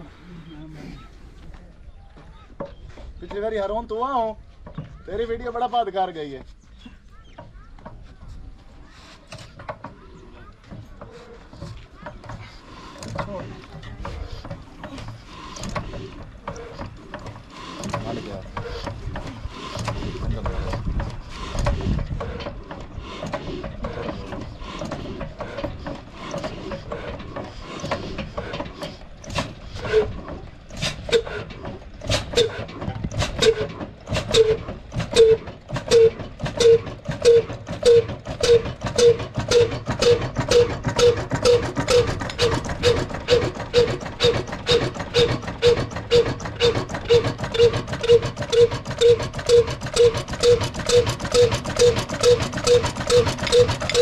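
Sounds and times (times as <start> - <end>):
diesel engine thudding: 9.3 - 54.0
flywheel knocking and clatter: 9.3 - 54.0.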